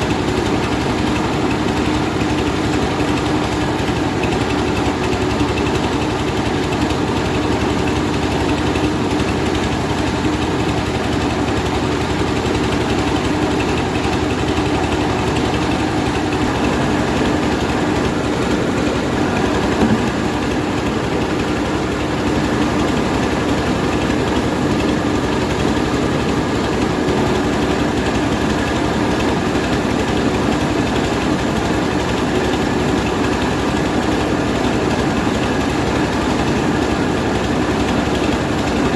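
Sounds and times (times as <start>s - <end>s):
rice milling machine running: 0.0s - 38.9s.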